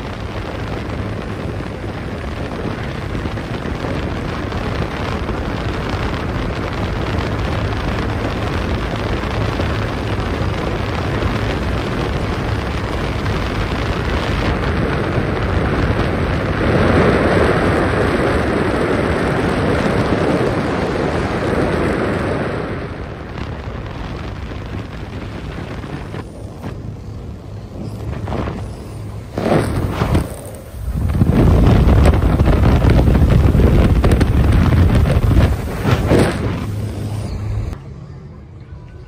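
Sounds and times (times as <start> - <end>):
water noise: 0.0 - 37.8
wind buffeting microphone: 0.0 - 37.8
powerboat engine: 0.0 - 39.0.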